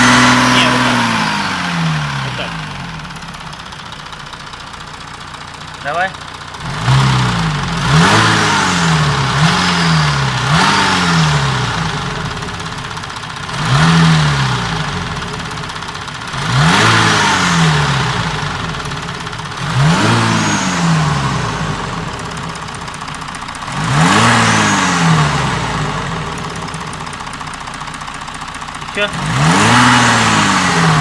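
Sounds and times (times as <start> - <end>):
diesel engine idling and revving: 0.0 - 31.0.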